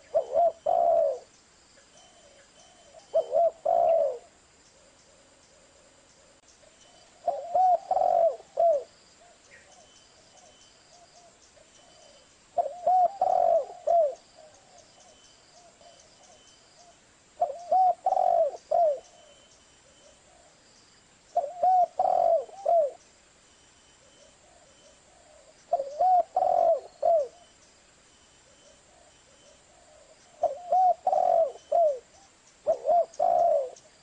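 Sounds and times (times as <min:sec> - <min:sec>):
dove cooing: 0:00.0 - 0:01.3, 0:02.1 - 0:06.3, 0:07.2 - 0:20.6, 0:21.4 - 0:23.0, 0:24.0 - 0:27.6, 0:28.4 - 0:34.0.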